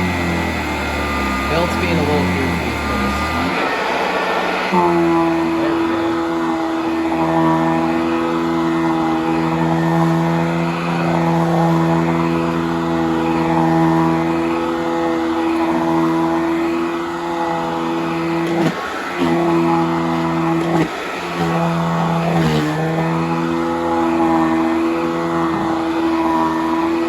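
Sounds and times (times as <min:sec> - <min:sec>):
upright vacuum cleaner running: 0:00.0 - 0:27.0.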